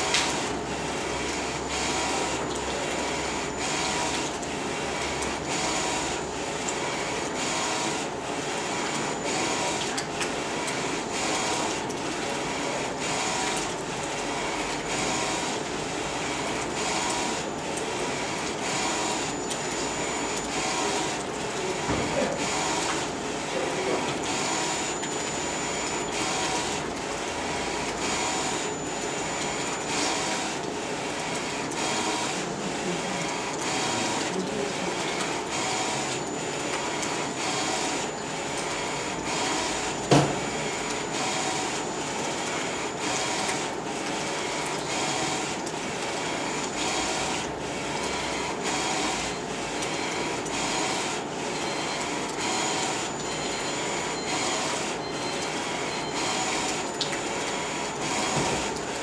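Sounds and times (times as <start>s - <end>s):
printer mechanical whir: 0.0s - 59.0s.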